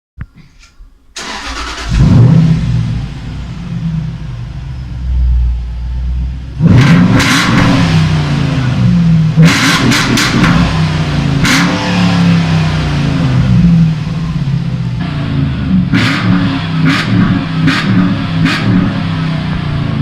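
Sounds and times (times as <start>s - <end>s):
car engine revving: 1.2s - 20.0s.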